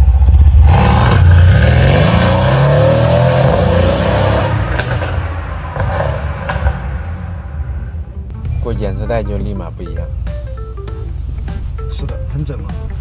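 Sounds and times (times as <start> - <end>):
car engine accelerating: 0.0 - 13.0
exhaust crack: 0.0 - 13.0.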